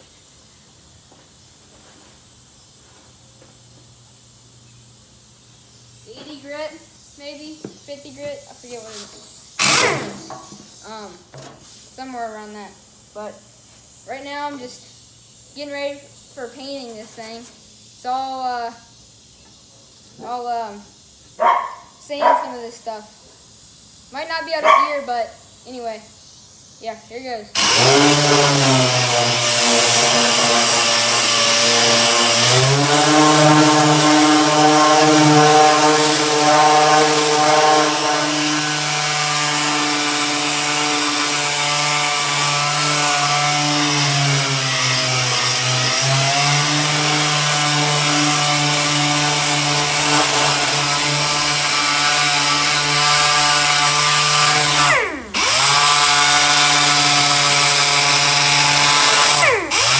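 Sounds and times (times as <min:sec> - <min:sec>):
sander on metal: 0:03.7 - 0:22.9, 0:27.6 - 0:59.9.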